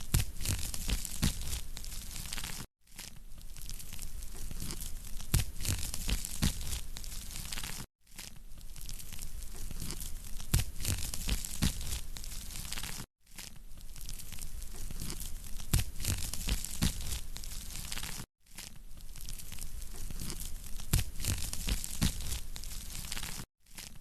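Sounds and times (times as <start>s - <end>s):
wood fire crackling: 0.0s - 2.7s, 3.4s - 23.5s.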